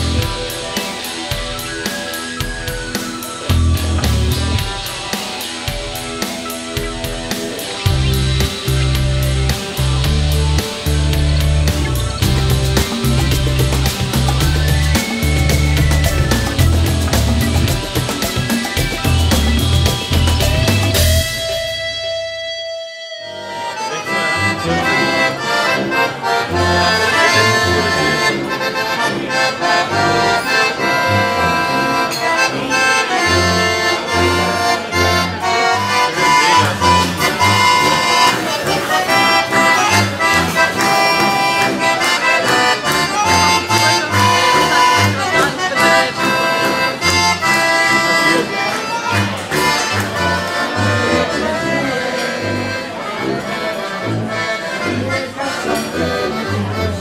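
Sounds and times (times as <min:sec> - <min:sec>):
accordion melody: 0:00.0 - 0:57.0
tuba bass notes: 0:00.0 - 0:57.0.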